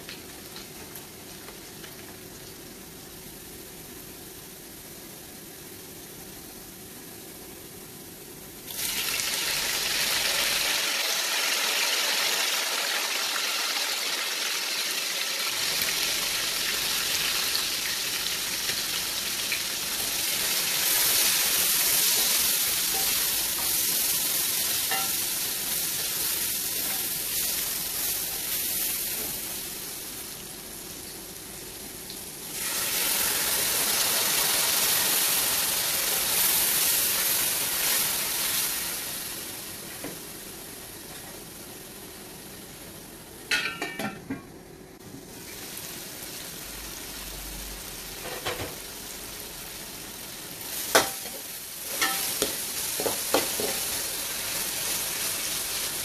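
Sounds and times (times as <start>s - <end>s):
tomatoes sizzling in hot oil: 8.6s - 44.0s, 45.3s - 56.0s.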